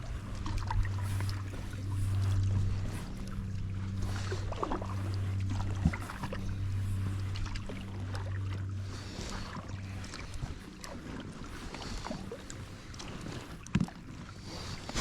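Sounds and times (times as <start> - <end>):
low steady hum: 0.0 - 15.0
paddle strokes swishing water: 0.0 - 15.0.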